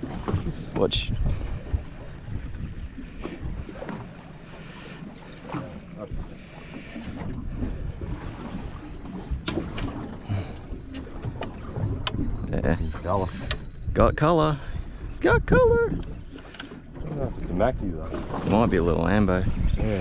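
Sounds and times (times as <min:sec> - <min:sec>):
wind buffeting microphone: 0:00.0 - 0:04.2, 0:05.5 - 0:20.0
water lapping at boat hull: 0:00.0 - 0:20.0.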